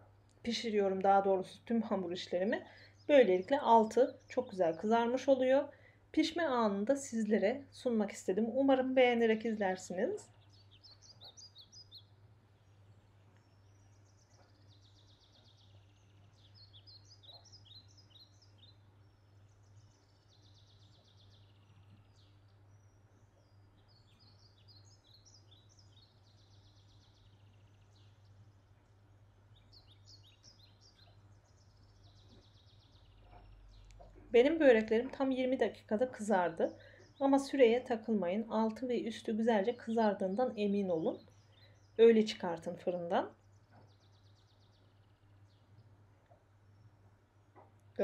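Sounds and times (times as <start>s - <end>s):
faint bird chirping: 0.0s - 48.0s.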